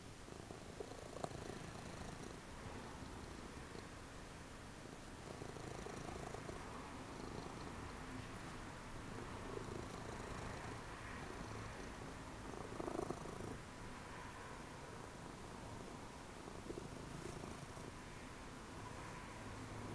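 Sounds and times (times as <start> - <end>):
cat purring: 0.0 - 4.1, 4.9 - 19.1
rustle: 0.0 - 19.9.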